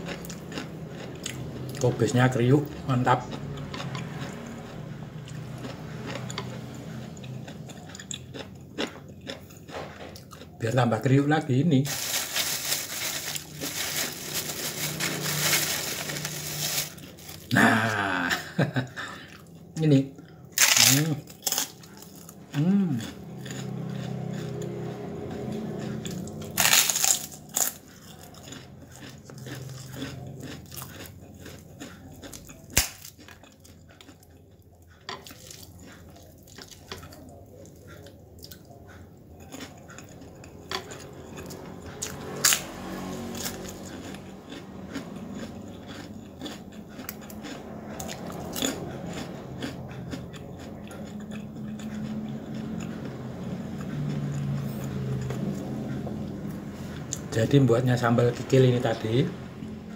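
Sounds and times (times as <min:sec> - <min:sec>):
person chewing crunchy cabbage: 0:00.0 - 0:59.9.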